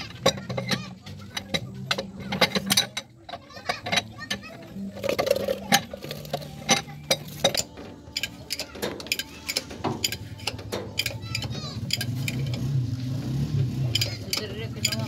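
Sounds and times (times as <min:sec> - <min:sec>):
hand tools clicking on metal: 0:00.0 - 0:12.8, 0:13.5 - 0:15.0.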